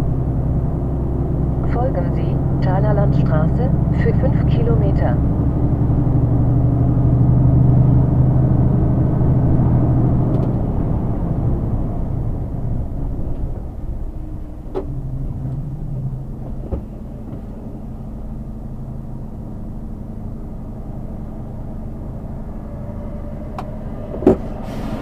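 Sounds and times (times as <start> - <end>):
diesel engine low hum: 0.0 - 25.0.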